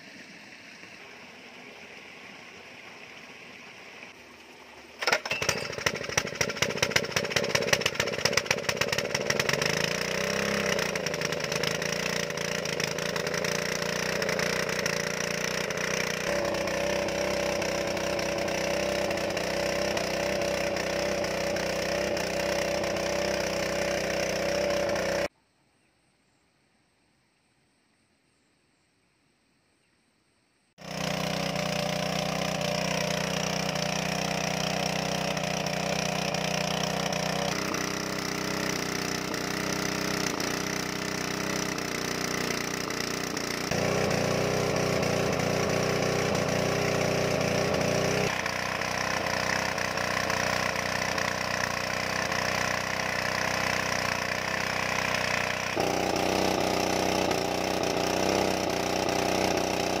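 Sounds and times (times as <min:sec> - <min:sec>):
water pump engine droning: 0:00.0 - 0:25.3, 0:30.8 - 1:00.0.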